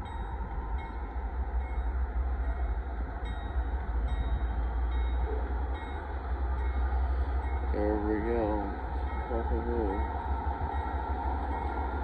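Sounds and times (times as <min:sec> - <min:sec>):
diesel locomotive low rumble: 0:00.0 - 0:12.0.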